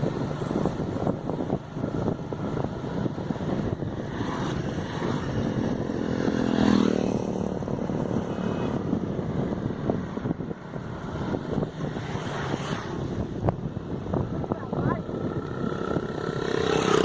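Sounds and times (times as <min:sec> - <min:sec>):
vehicle engine passing: 0:00.0 - 0:17.0
wind buffeting microphone: 0:00.0 - 0:17.0.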